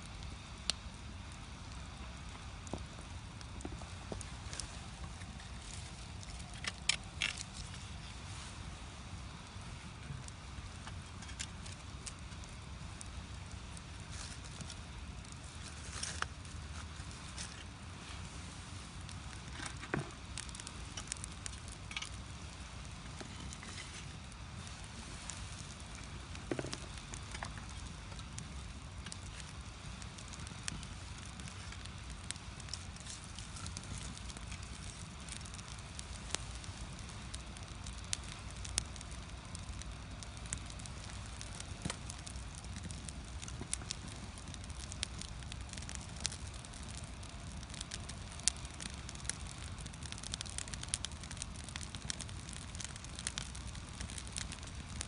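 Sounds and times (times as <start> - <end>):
firewood crackling and popping: 0.0 - 55.0
low rumble of flames: 0.0 - 55.0.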